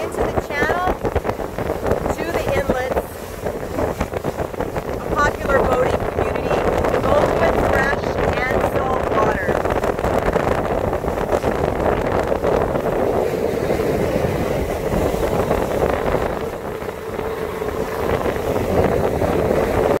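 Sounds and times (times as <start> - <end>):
motorboat engine: 0.0 - 20.0
water rushing and splashing: 0.0 - 20.0
wind buffeting microphone: 0.0 - 20.0.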